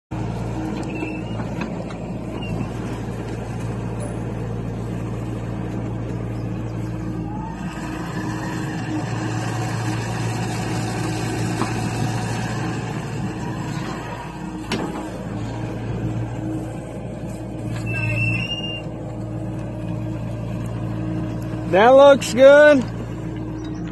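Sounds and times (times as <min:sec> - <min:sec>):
excavator diesel engine running: 0:00.1 - 0:23.9.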